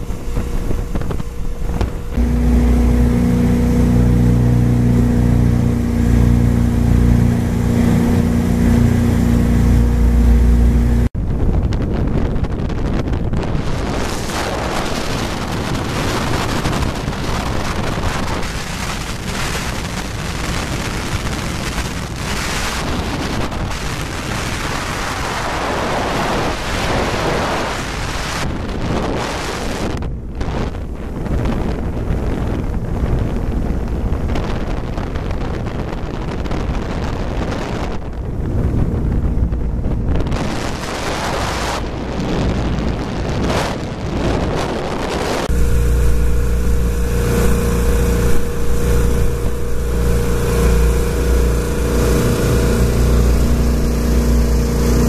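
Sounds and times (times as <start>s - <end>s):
rushing water: 0.0s - 11.1s, 13.5s - 55.0s
boat engine rumble: 0.0s - 55.0s
wind buffeting microphone: 0.0s - 55.0s.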